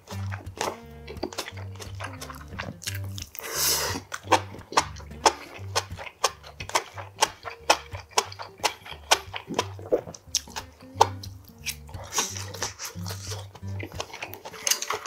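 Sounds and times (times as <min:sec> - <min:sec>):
background music with beat: 0:00.0 - 0:15.0
person chewing: 0:00.0 - 0:15.0.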